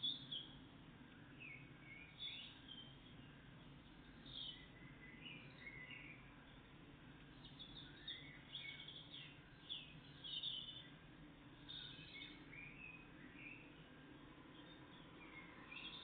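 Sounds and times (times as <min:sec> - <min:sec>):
low steady hum: 0:00.0 - 0:16.0
songbird chirping: 0:00.0 - 0:16.0.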